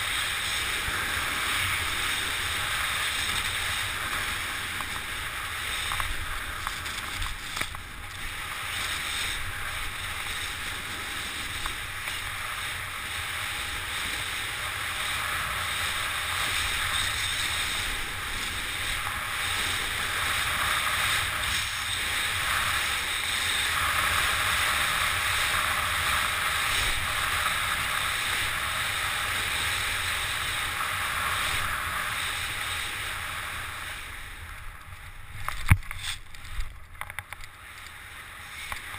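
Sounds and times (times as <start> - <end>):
skis hissing through snow: 0.0 - 36.7, 37.6 - 38.9.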